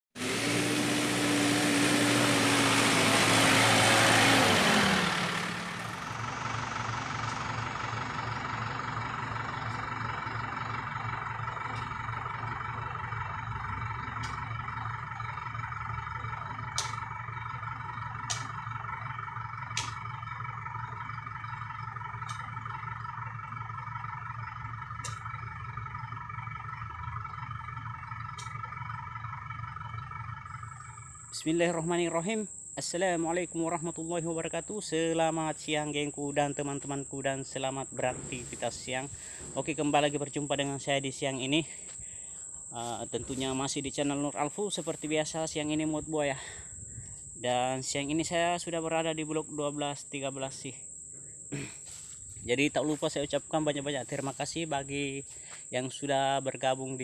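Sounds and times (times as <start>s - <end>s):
tractor engine running: 0.0s - 56.8s
insect drone: 0.5s - 57.0s.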